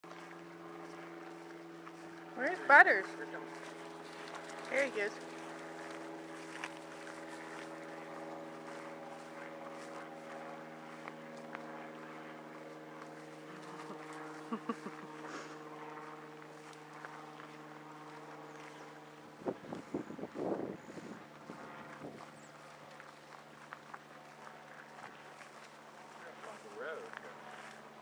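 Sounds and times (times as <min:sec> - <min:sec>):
distant engine droning: 0:00.0 - 0:28.0.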